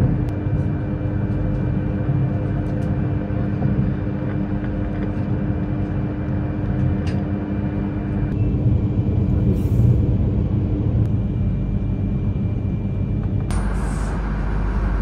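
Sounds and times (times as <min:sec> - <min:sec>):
faint train whine: 0:00.0 - 0:15.0
train rumbling: 0:00.0 - 0:15.0.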